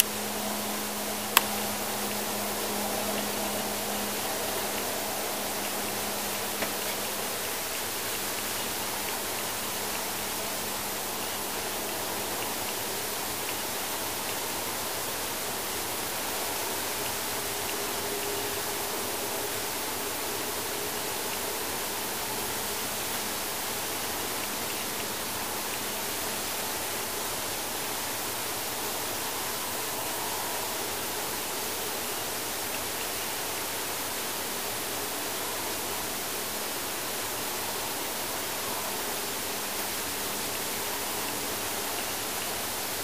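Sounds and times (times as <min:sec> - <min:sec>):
faint wavering humming tones: 0:00.0 - 0:43.0
recording hiss: 0:00.0 - 0:43.0.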